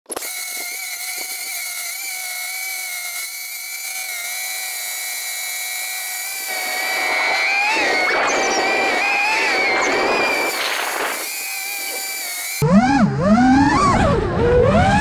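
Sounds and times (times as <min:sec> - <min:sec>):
drone motors and propellers whining: 0:00.1 - 0:15.0.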